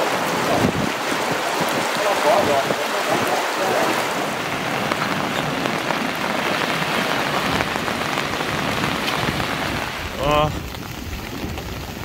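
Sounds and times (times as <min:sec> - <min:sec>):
rain falling on water: 0:00.0 - 0:12.0
raindrops hitting wet pontoon: 0:00.0 - 0:12.0.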